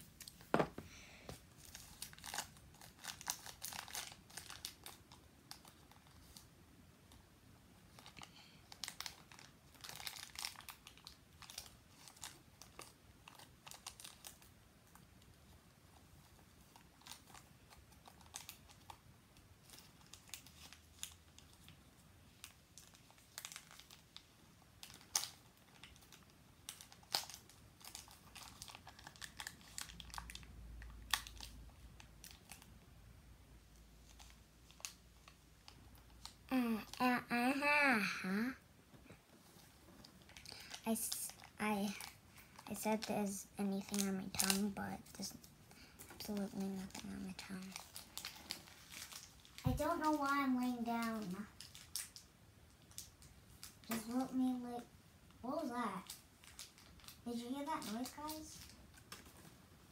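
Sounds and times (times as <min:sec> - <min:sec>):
plastic wrapper crinkling: 0:01.4 - 0:06.5, 0:07.8 - 0:15.4, 0:16.3 - 0:32.8, 0:33.7 - 0:38.5, 0:39.4 - 0:59.9.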